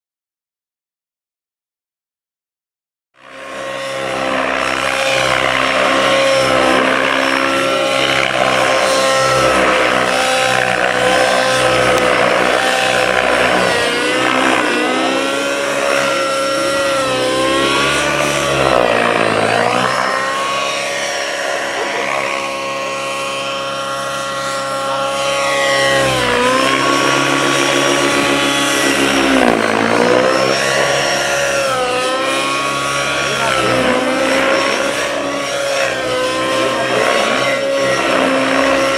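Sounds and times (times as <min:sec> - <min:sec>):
model helicopter engine whine: 0:03.2 - 0:38.9.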